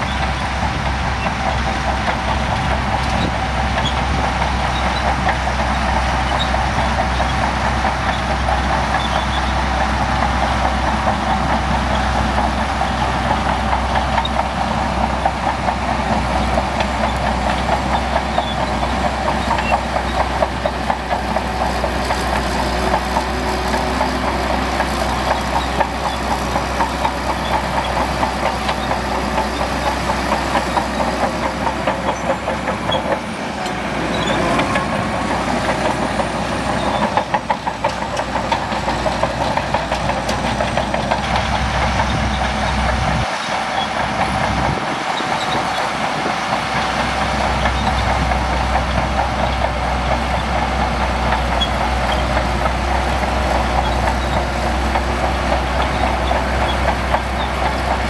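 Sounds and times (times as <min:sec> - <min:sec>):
bulldozer diesel engine: 0:00.0 - 0:58.0
steel tracks clanking: 0:00.0 - 0:58.0.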